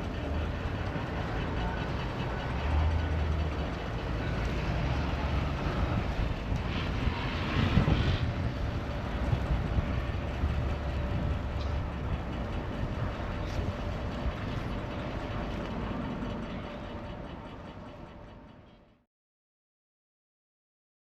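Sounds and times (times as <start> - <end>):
city street noise rumble: 0.0 - 19.0.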